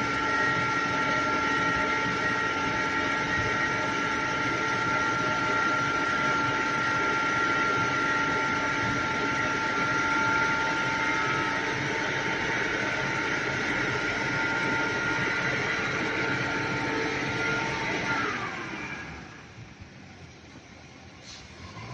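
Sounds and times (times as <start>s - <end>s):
high whine: 0.0s - 20.1s.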